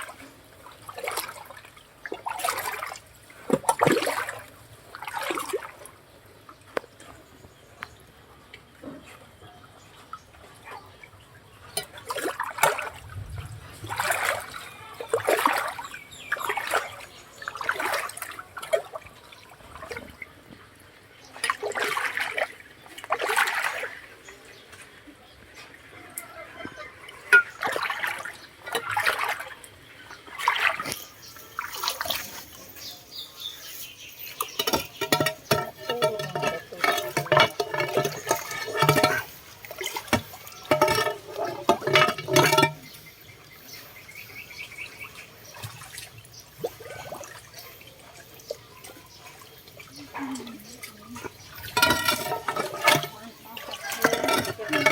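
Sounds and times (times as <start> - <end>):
water splashing in a drain: 0.0 - 54.9.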